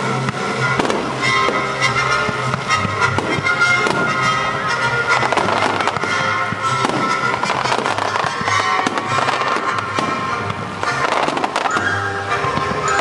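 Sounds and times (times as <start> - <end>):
fireworks bursting and crackling: 0.0 - 13.0
music: 0.0 - 13.0.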